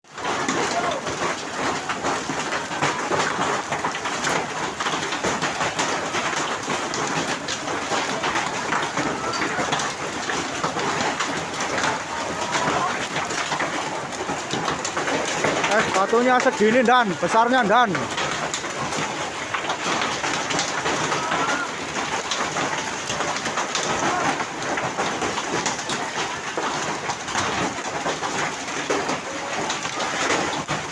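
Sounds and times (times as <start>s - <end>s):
hail and rain clattering: 0.0s - 30.9s.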